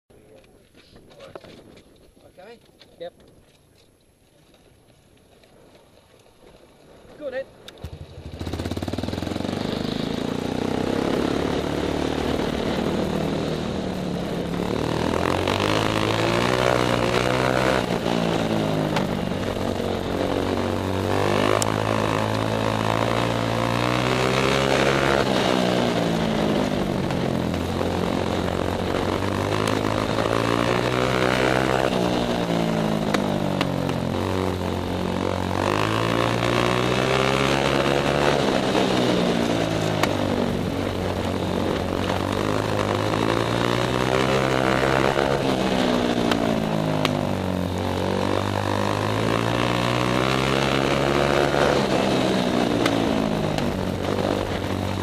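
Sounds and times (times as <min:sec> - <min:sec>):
motorcycle engine revving: 0:07.7 - 0:55.0.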